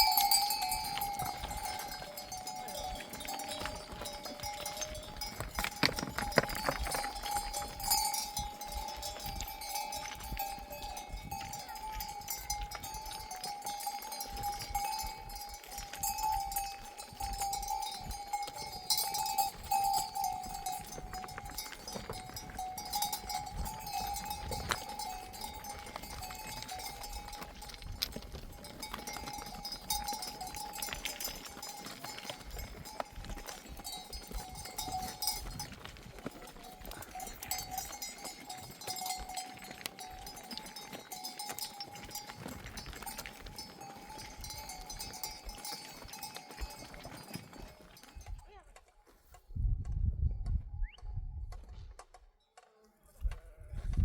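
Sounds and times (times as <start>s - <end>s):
sheep bells clinking: 0.0s - 49.5s.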